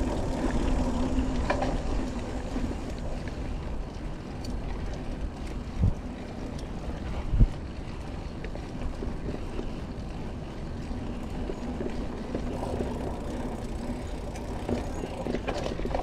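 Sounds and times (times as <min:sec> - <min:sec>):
bike clicks and rattles: 0:00.0 - 0:16.0
bike tyre rumble on dirt: 0:00.0 - 0:16.0
wind noise on microphone: 0:00.0 - 0:16.0.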